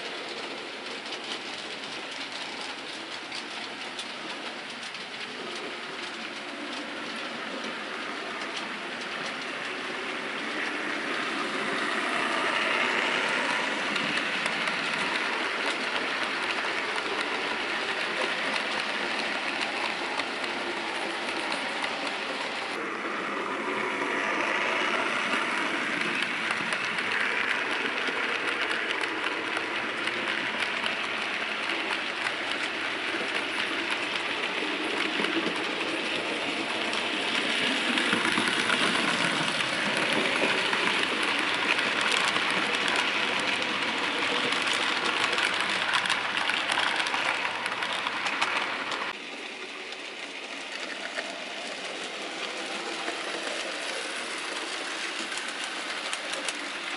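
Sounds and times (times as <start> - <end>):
model train wheels rattling: 0.0 - 56.9.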